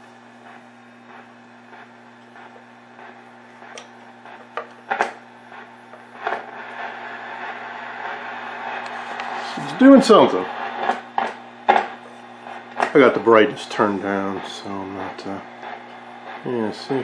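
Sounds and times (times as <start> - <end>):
speaker hiss: 0.0 - 17.0
television hum: 0.0 - 17.0
sharp crackles: 0.4 - 16.6.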